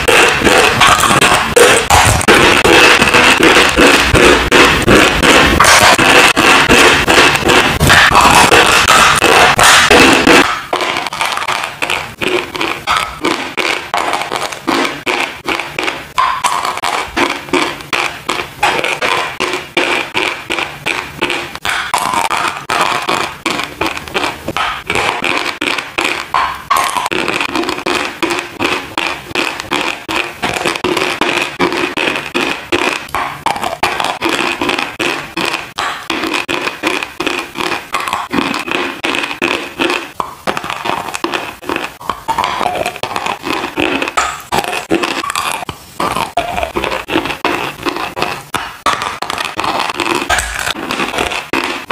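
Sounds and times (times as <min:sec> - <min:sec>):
chalk crunching while chewed: 0:00.0 - 0:51.9.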